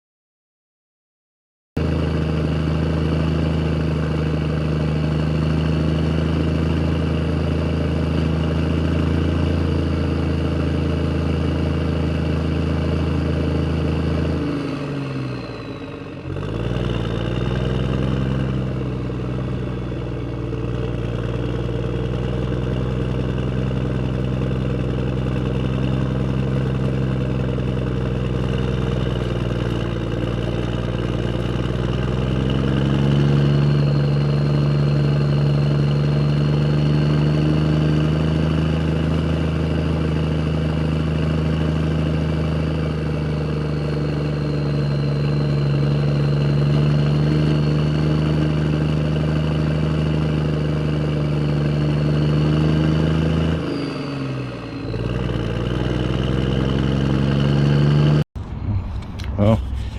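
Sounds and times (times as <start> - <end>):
engine running: 1.8 - 59.9.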